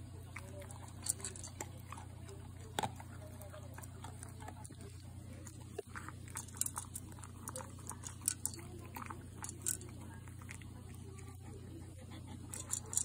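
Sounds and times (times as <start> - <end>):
dog crunching dry kibble: 0.0 - 11.7, 12.4 - 13.0.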